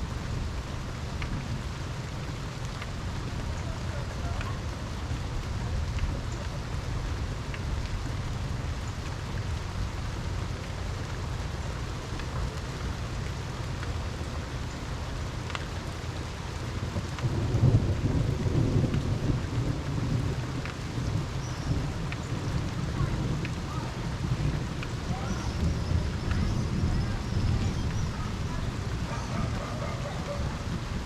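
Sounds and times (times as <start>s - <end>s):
low roll of thunder: 0.0s - 11.1s, 16.8s - 31.0s
raindrops striking close by: 0.0s - 31.0s
steady rain falling: 0.0s - 31.0s.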